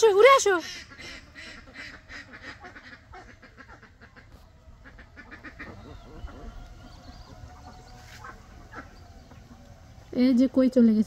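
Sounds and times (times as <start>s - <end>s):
ducks quacking: 0.2s - 10.1s.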